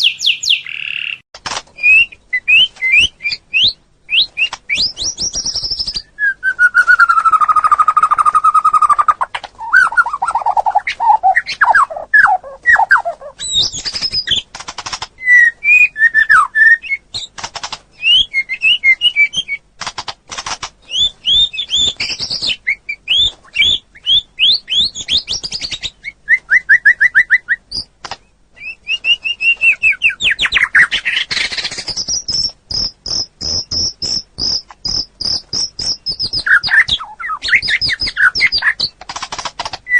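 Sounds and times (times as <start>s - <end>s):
songbird singing: 0.0s - 1.2s, 1.8s - 14.5s, 15.1s - 19.7s, 20.8s - 39.9s.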